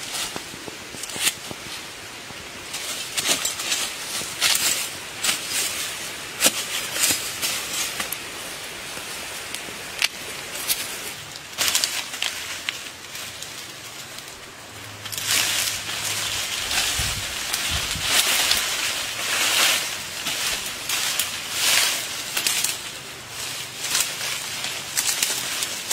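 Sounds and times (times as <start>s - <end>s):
leaves and twigs rustling: 0.0s - 25.9s
twigs snapping: 0.0s - 25.9s.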